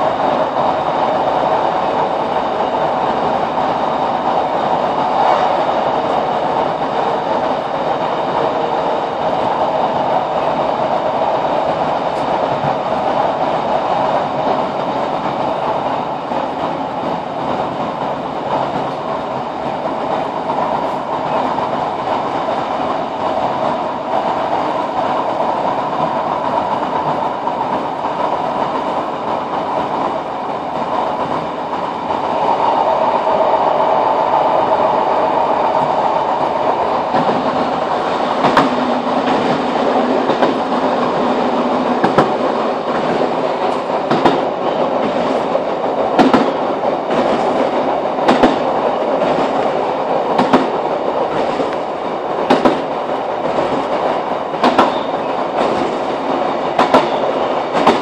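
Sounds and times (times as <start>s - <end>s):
train diesel engine drone: 0.0s - 58.0s
wheels running on rails: 0.0s - 58.0s.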